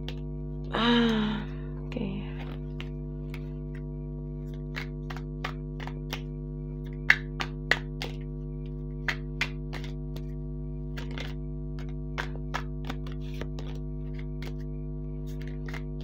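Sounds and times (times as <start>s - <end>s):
steady low hum: 0.0s - 16.0s
cards being shuffled: 2.4s - 16.0s.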